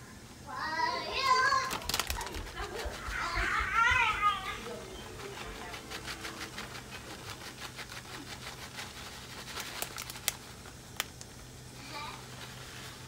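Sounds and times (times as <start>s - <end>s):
light ticks of sprinkled topping: 1.2s - 13.0s
plastic bag crinkling: 1.5s - 13.0s.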